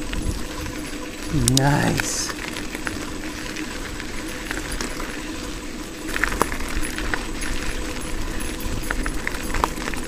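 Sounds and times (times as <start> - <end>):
bike tyres crunching on gravel: 0.0 - 10.0
metallic clinks and rattles: 0.1 - 10.0.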